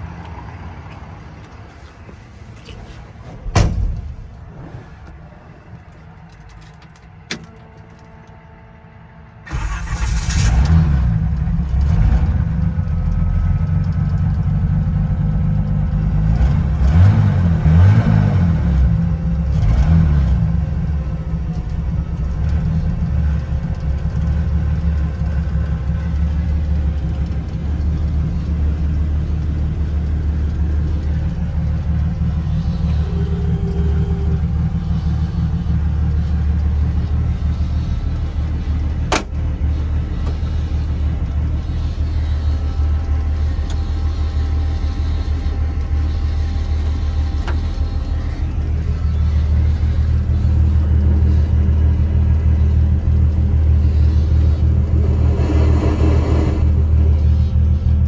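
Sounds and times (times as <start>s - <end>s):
car engine starting and revving: 9.4s - 58.0s.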